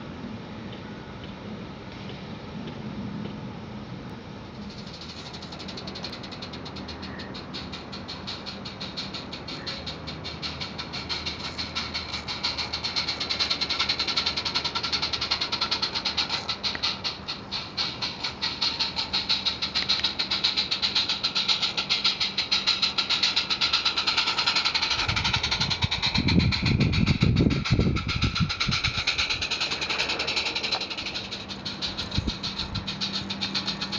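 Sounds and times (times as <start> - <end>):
model train clattering on track: 4.6 - 33.9.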